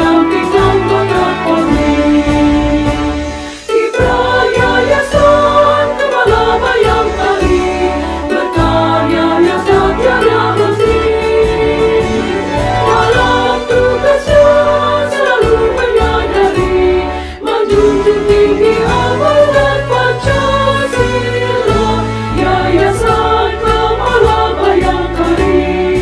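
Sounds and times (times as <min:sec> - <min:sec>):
instrumental backing with bass: 0:00.0 - 0:26.0
women's choir singing a march: 0:00.0 - 0:26.0.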